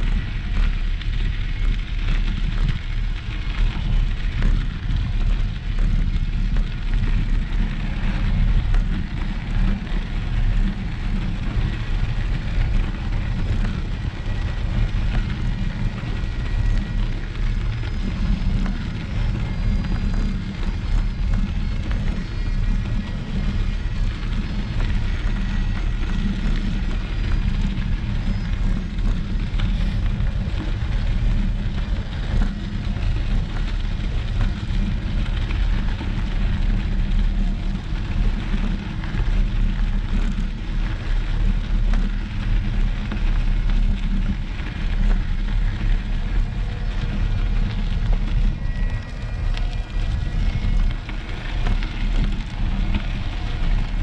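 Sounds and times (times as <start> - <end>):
low rumbling noise: 0.0 - 54.0.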